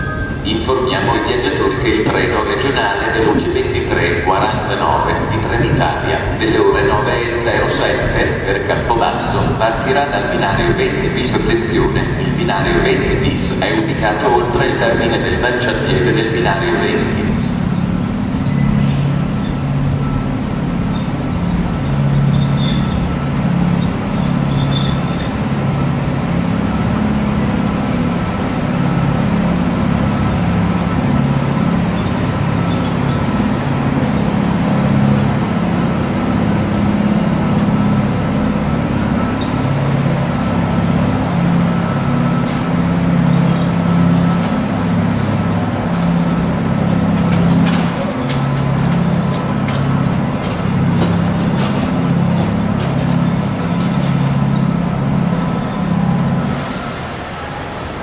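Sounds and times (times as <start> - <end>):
electric locomotive humming: 0.0 - 58.0.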